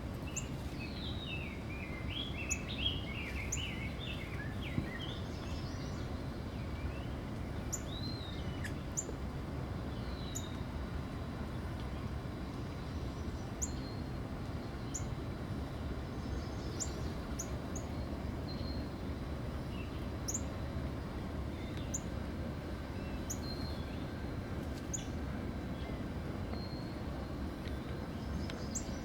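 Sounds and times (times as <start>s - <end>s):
low background rumble: 0.0s - 29.0s.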